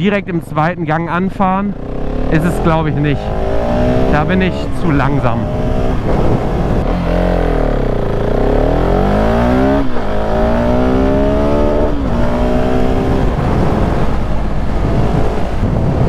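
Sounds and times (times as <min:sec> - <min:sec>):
motorcycle engine accelerating: 0:00.6 - 0:16.0.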